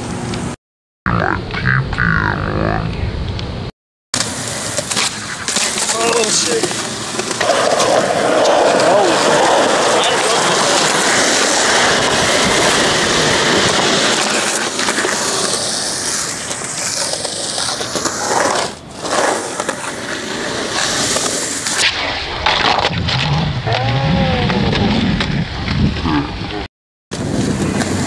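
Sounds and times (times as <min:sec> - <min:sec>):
skateboard wheels rolling on concrete: 0:04.2 - 0:28.0.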